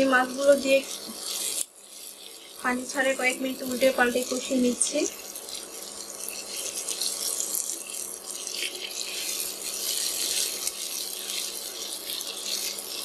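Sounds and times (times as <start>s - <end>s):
fish sizzling in hot oil: 0.0s - 13.0s
spatula turning food in pan: 0.0s - 13.0s.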